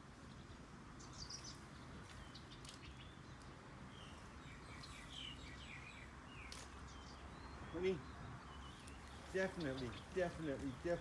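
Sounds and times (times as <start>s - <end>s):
low outdoor background noise: 0.0s - 11.0s
small birds chirping: 0.0s - 11.0s.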